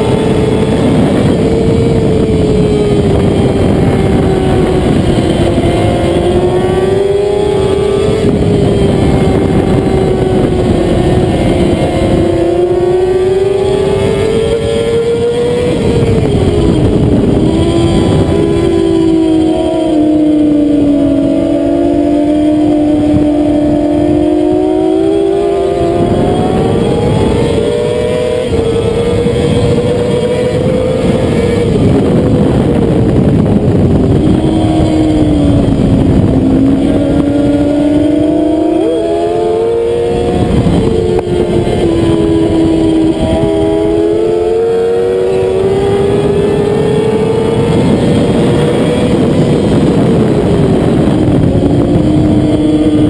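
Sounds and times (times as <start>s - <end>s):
motorcycle engine revving high: 0.0s - 53.0s
wind noise: 0.0s - 53.0s.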